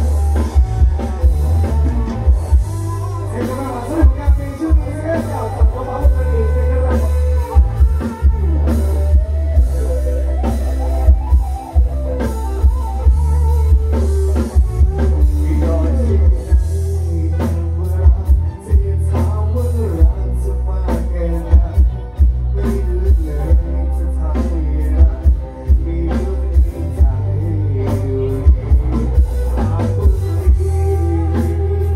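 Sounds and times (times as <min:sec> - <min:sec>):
loud live band music: 0:00.0 - 0:31.9
man singing into a microphone: 0:02.1 - 0:10.5, 0:13.0 - 0:31.9.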